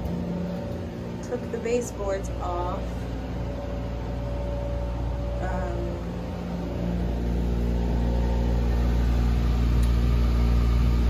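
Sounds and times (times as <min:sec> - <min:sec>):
dehumidifier humming: 0:00.0 - 0:11.0.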